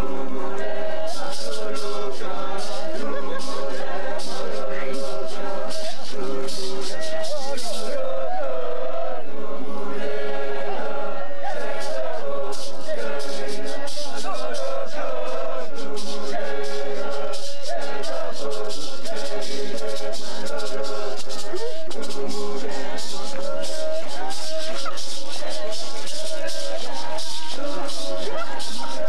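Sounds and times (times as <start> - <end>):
voices chanting in unison: 0.0 - 29.0
shaken rattle beat: 0.5 - 8.0, 10.7 - 29.0.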